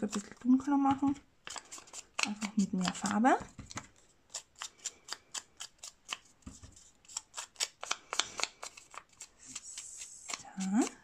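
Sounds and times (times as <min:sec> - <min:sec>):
sponge dauber tapping paper: 0:00.0 - 0:09.2.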